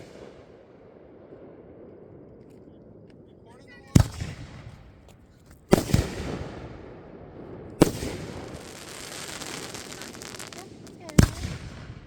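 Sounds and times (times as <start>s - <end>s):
fireworks crackling: 0.0s - 0.7s, 1.9s - 12.0s
fireworks bangs: 0.0s - 12.0s.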